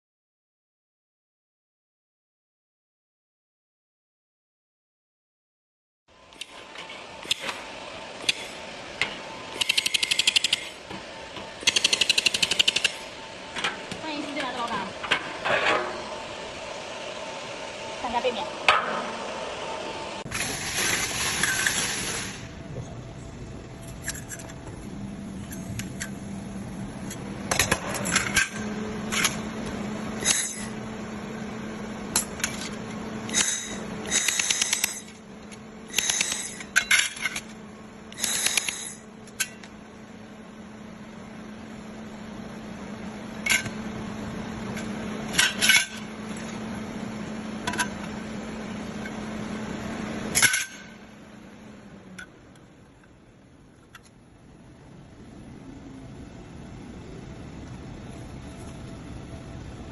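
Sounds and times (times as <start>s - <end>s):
low machine hum: 6.1s - 59.9s.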